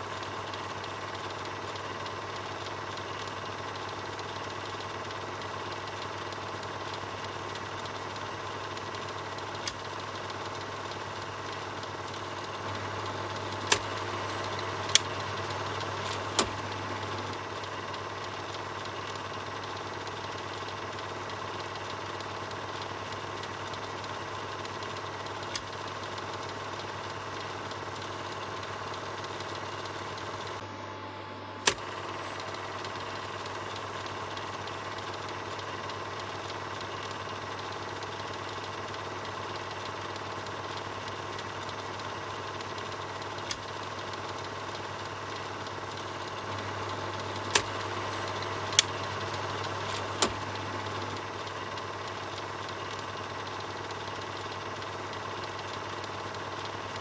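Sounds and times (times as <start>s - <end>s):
film projector running: 0.0s - 57.0s
sharp clicks: 0.2s - 30.6s, 31.6s - 57.0s.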